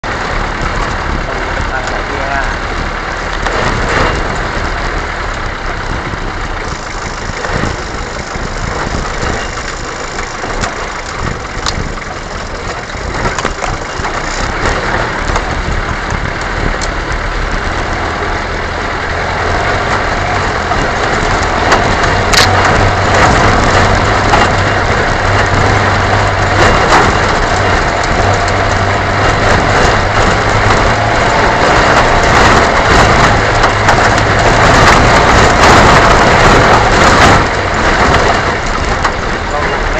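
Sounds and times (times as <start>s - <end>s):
dense noisy wash: 0.0s - 39.9s
vehicle engine running: 0.0s - 39.9s.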